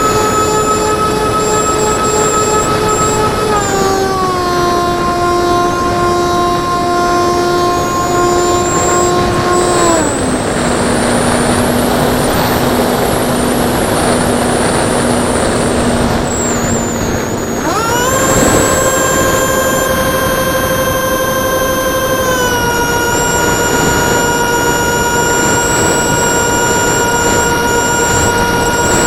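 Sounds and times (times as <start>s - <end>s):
electric fan whining: 0.0s - 29.0s.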